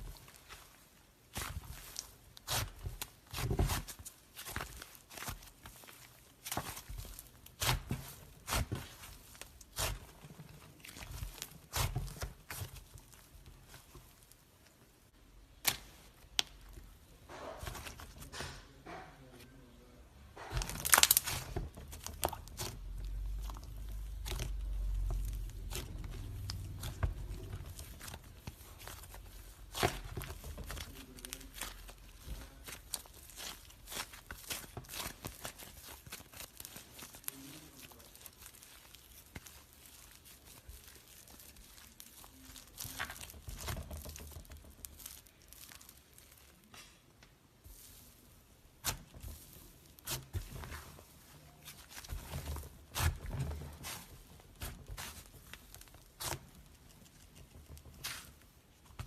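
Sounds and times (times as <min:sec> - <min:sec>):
slime squished by hand: 0:00.0 - 0:14.8, 0:20.5 - 0:46.9, 0:47.7 - 0:59.0.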